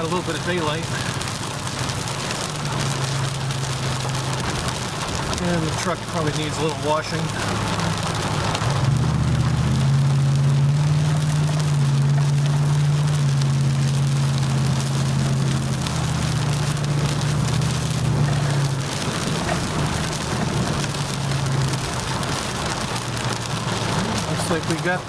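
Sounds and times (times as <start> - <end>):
heavy rain on a windshield: 0.0 - 25.0
truck engine hum: 0.0 - 25.0.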